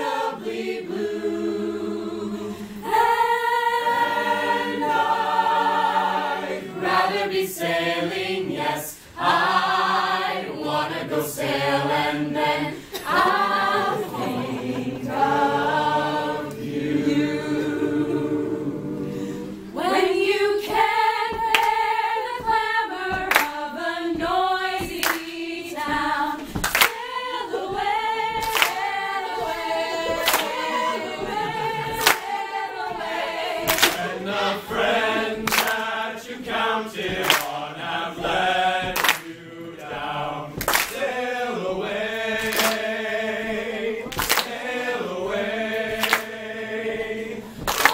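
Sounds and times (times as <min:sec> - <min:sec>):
a cappella choir singing: 0:00.0 - 0:47.9.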